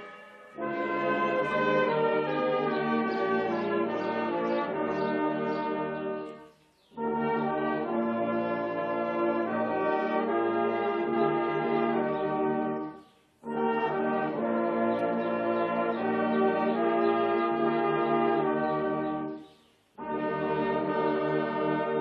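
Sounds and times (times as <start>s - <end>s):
brass instruments playing chords: 0.0s - 22.0s.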